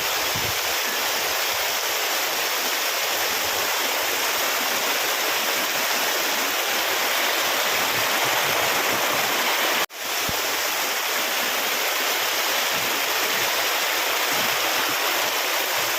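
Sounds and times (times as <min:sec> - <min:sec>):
running water rushing: 0:00.0 - 0:15.9.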